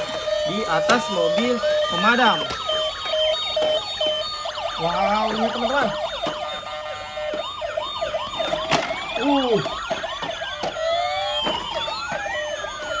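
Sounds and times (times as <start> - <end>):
toy electronic sirens: 0.0 - 13.0.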